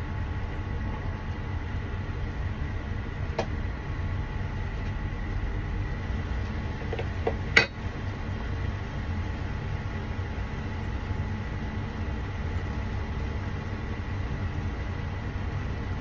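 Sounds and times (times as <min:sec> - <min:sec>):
low kitchen hum: 0:00.0 - 0:16.0.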